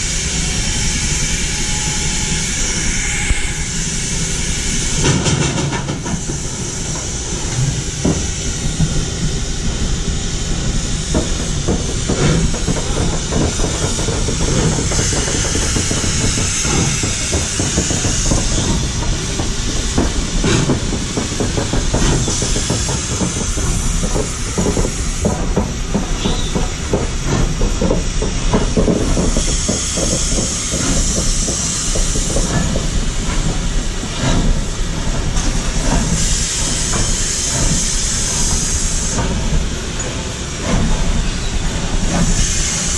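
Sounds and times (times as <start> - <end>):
hissing steam: 0.0 - 42.9
steam locomotive chuffing: 0.0 - 42.9.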